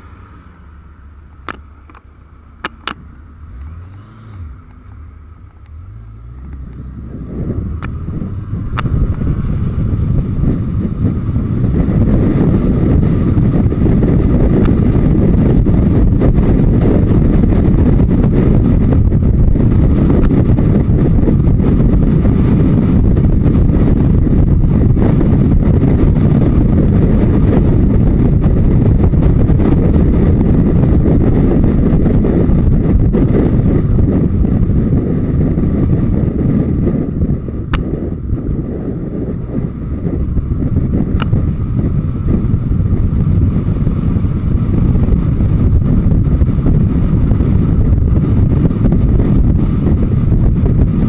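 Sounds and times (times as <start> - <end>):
motorcycle engine running: 0.0 - 51.0
wind rushing over microphone: 0.0 - 51.0.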